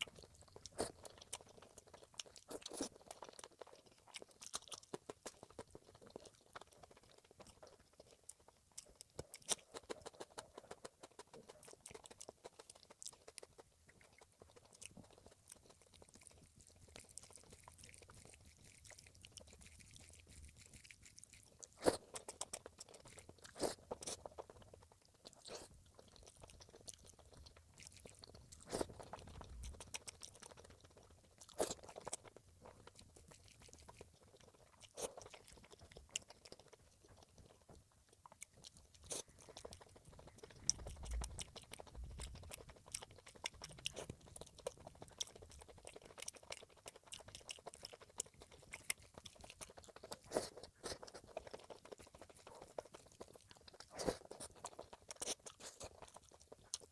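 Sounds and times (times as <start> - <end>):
chewing and crunching food: 0.0 - 56.9.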